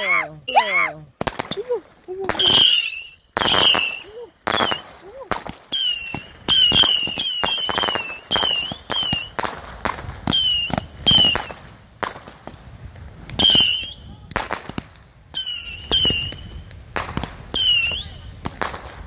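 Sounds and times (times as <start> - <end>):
firework pops and whistles: 2.3 - 19.0.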